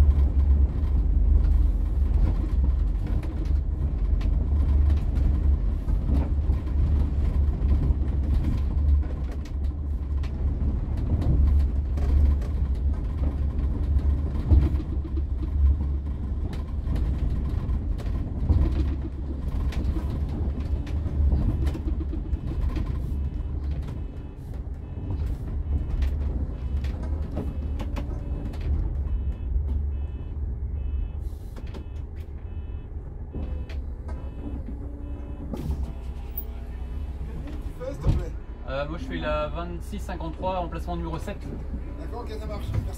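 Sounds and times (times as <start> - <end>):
bus engine rumble: 0.0 - 42.9
road noise: 0.0 - 42.9.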